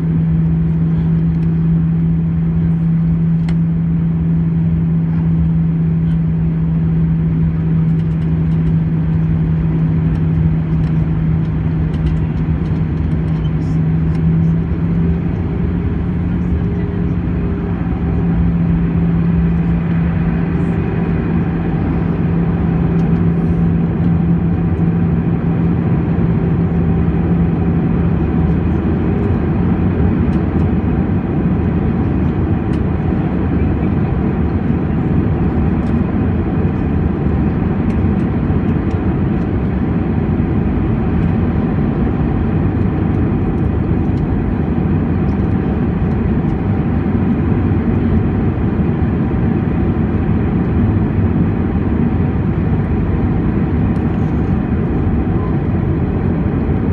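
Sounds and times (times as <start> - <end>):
low hum: 0.0 - 48.7
aircraft cabin engine noise: 0.0 - 56.9.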